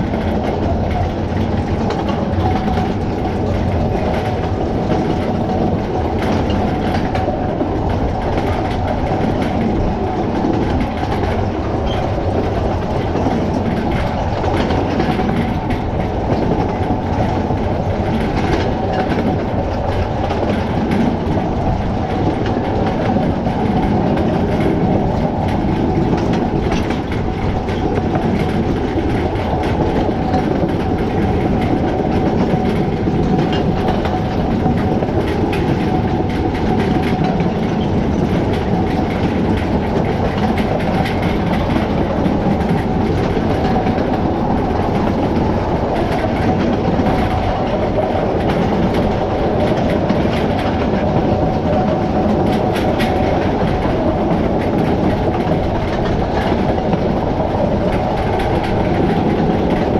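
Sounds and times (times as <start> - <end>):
train wheels rumbling on track: 0.0 - 59.9
wheels clicking over rail joints: 0.0 - 59.9.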